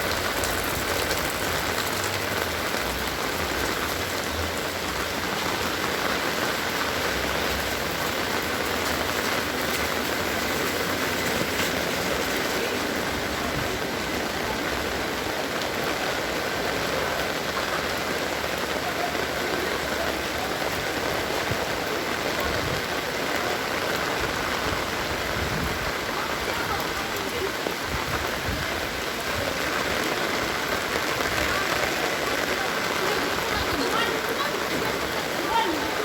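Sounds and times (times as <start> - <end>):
heavy rain on hard surfaces: 0.0 - 36.0.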